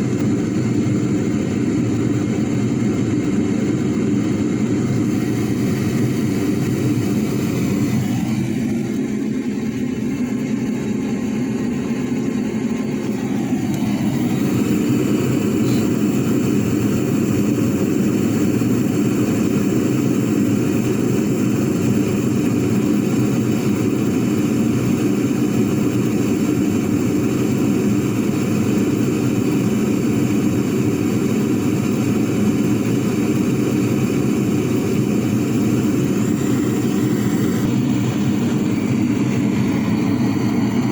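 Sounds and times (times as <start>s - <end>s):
furnace burner rushing: 0.0s - 40.9s.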